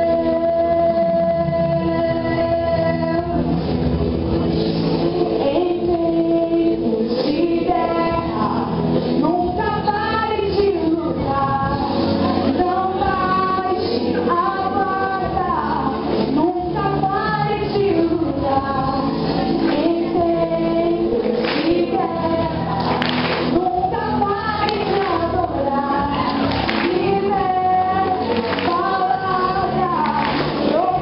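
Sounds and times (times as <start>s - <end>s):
woman singing into microphone: 0.0s - 3.8s, 4.6s - 31.0s.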